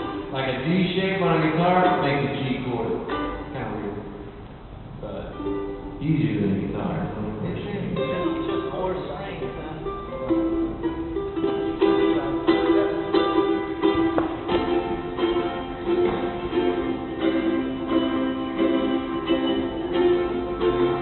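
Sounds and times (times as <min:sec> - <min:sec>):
ukulele chords strummed: 0:00.0 - 0:21.0.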